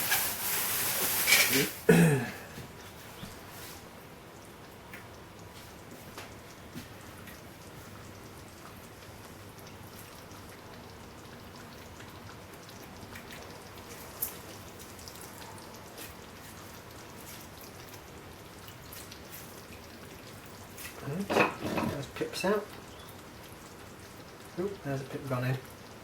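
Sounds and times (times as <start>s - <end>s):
sauce bubbling in a pan: 0.0s - 26.0s.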